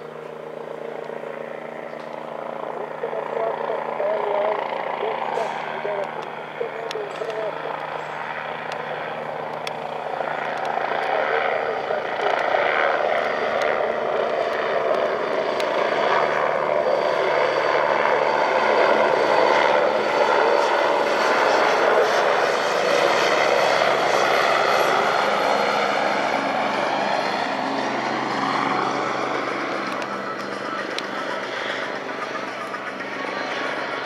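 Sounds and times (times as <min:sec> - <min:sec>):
helicopter rotor and turbine: 0:00.0 - 0:34.0.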